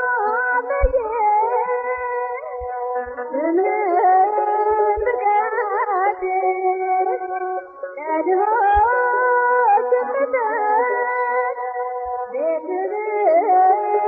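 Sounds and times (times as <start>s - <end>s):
woman singing a hymn: 0.0s - 14.0s.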